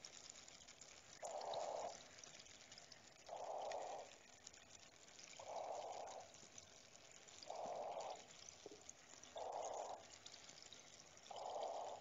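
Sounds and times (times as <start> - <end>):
small water drips: 0.0 - 12.0
soft rush of water: 0.0 - 12.0
water trickling: 0.0 - 12.0.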